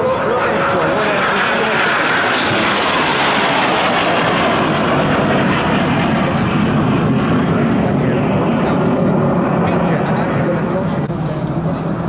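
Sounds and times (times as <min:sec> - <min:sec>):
jet aircraft climbing: 0:00.0 - 0:12.0.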